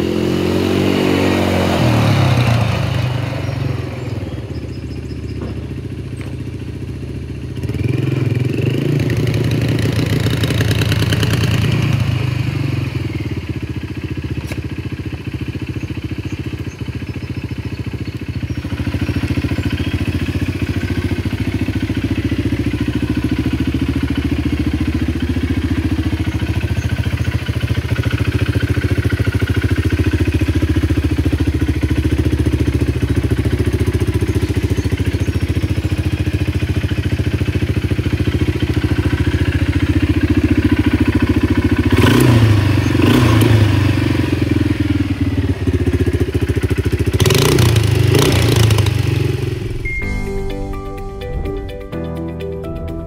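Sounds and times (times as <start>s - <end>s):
quad bike engine running: 0.0s - 50.1s.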